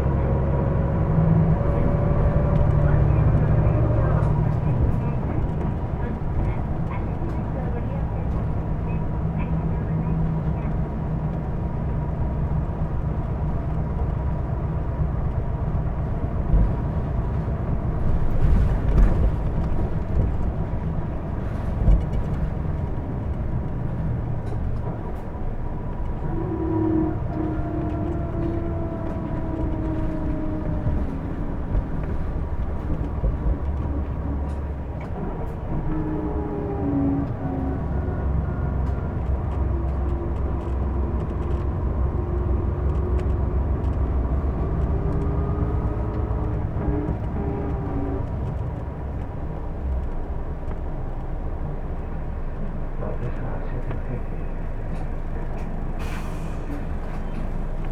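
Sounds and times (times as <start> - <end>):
bus drivetrain rumble: 0.0 - 57.9.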